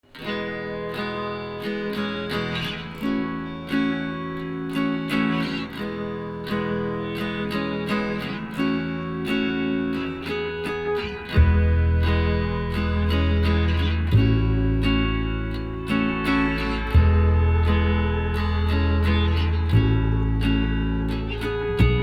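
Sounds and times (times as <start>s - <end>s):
acoustic guitar strumming chords: 0.2s - 22.0s.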